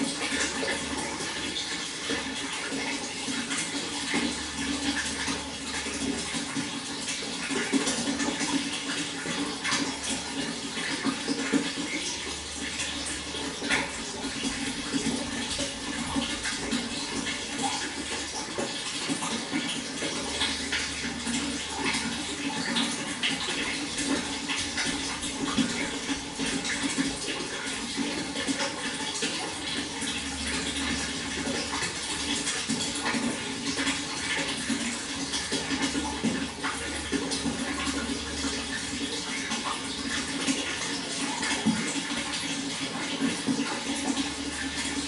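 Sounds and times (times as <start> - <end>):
water flowing: 0.0 - 45.0.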